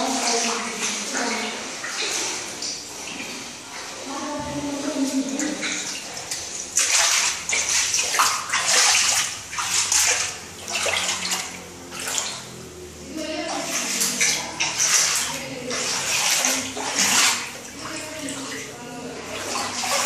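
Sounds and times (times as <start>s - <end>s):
footsteps wading through water: 0.0s - 20.0s.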